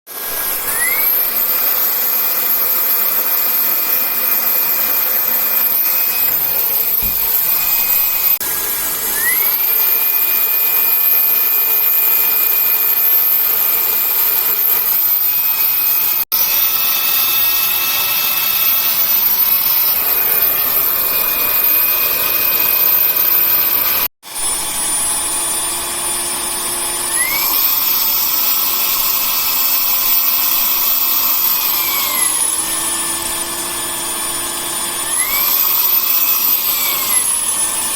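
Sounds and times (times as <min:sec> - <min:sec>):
cordless vacuum cleaner motor whining: 0:00.1 - 0:37.9.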